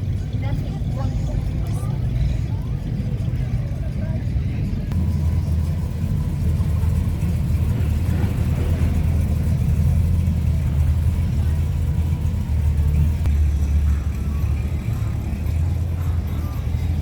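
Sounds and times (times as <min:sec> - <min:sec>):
car engines rumbling: 0:00.0 - 0:17.0.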